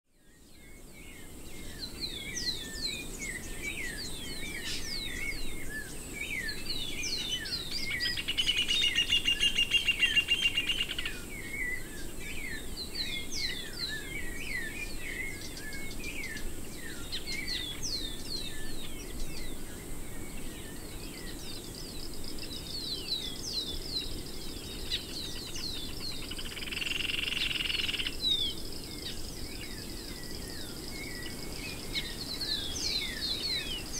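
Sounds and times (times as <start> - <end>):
birds singing and chirping: 0.1 - 33.9.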